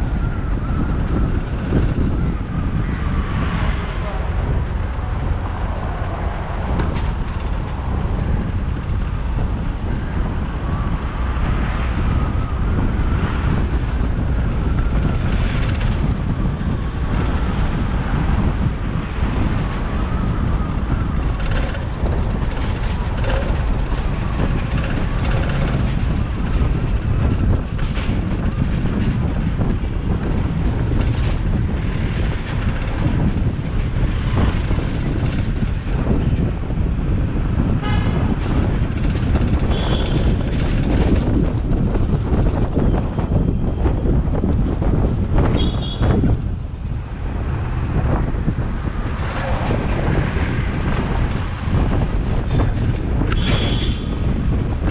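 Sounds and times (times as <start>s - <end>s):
road and engine rumble: 0.0s - 54.9s
wind buffeting microphone: 0.0s - 54.9s.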